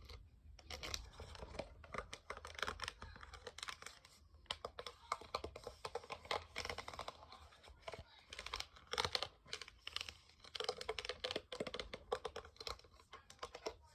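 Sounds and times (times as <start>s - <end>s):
crinkly material clicking: 0.0s - 13.9s.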